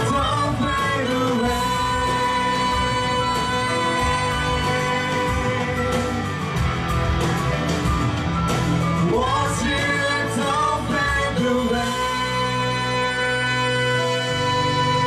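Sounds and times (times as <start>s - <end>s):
man and woman singing a duet: 0.0s - 6.2s, 9.0s - 15.0s
instrumental backing track: 0.0s - 15.0s.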